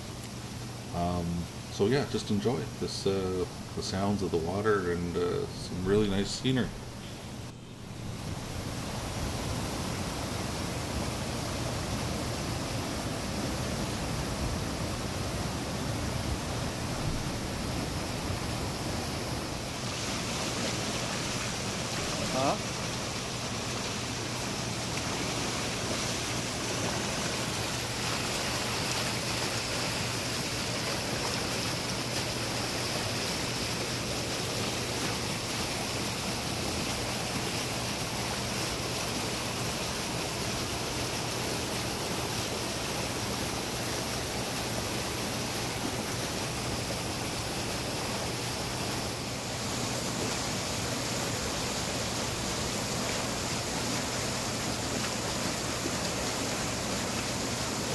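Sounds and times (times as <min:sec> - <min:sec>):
waterfall rushing: 0:08.0 - 0:57.9.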